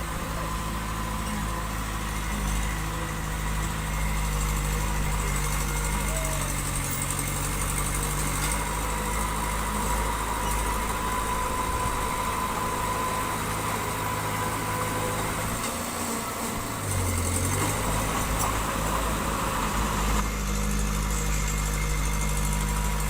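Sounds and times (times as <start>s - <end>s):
diesel engine running at low revs: 0.0s - 23.0s.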